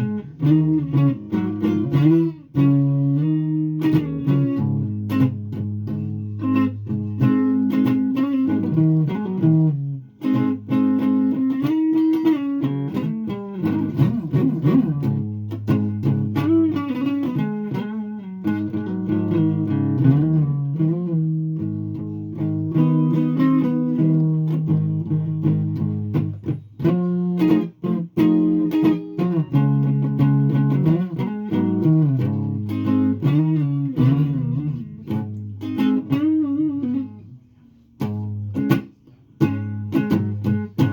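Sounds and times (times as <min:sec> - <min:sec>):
guitar playing: 0:00.0 - 0:40.9.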